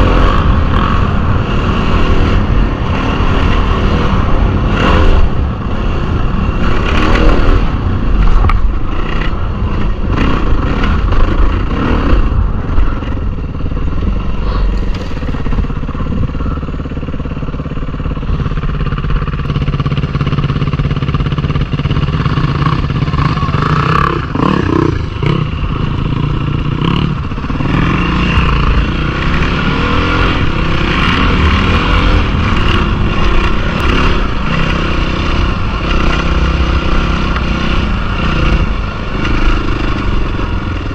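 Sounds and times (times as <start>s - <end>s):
dirt bike engine revving: 0.0s - 13.3s, 14.0s - 40.9s.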